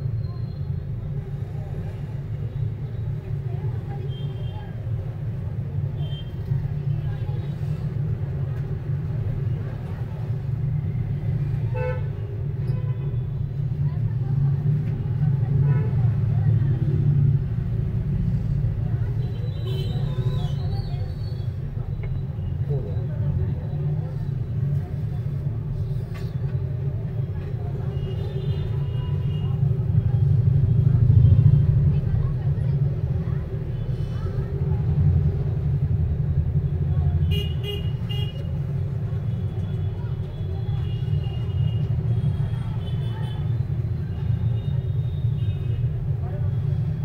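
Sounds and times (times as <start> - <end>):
faint voices: 0.0 - 47.0
road traffic rumble: 0.0 - 47.0.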